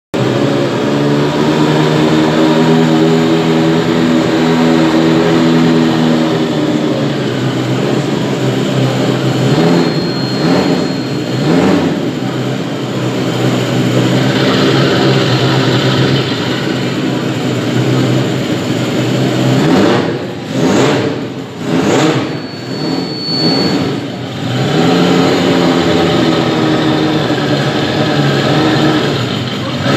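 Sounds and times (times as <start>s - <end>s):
motorcycle engine idling and revving: 0.1s - 29.9s.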